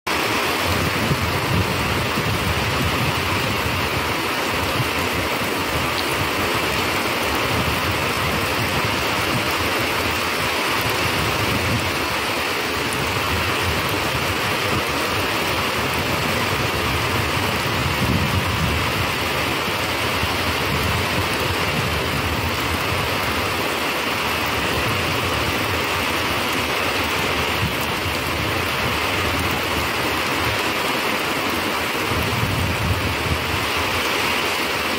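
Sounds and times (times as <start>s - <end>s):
steady rain hissing: 0.1s - 34.9s.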